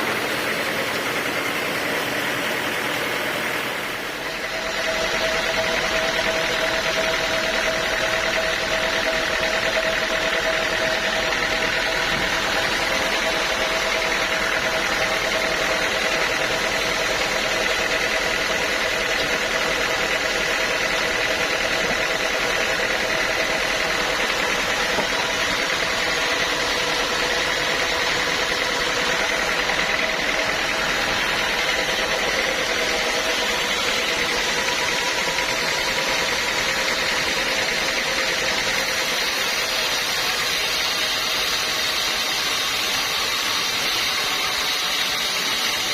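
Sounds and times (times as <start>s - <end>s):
band sawmill running: 0.0s - 45.9s
steady machine whine: 0.0s - 45.9s.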